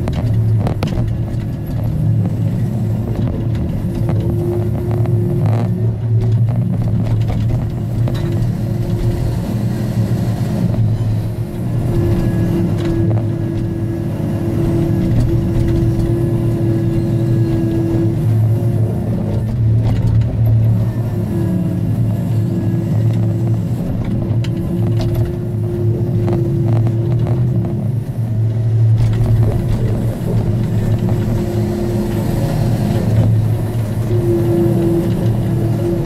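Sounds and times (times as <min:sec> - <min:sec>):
diesel engine running under load: 0:00.0 - 0:36.0
high steady whine: 0:00.0 - 0:36.0.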